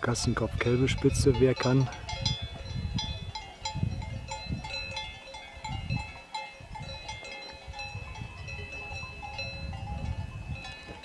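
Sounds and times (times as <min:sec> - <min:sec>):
cowbells clanking: 0:00.0 - 0:11.0.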